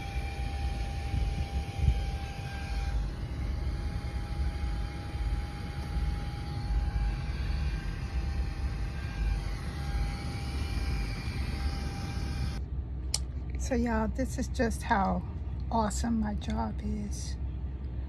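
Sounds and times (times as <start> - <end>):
thin steady whine: 0.0 - 18.0.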